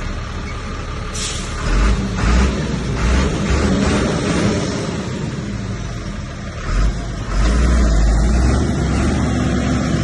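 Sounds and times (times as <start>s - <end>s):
heavy diesel engine rumbling: 0.0s - 10.0s.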